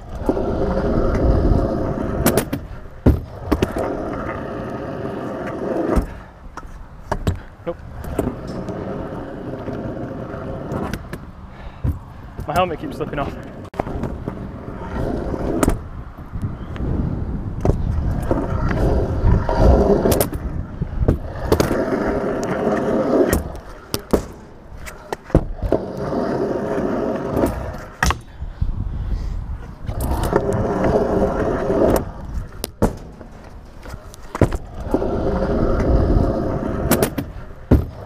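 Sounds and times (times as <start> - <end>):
scooter wheels rolling on tarmac: 0.0 - 38.0.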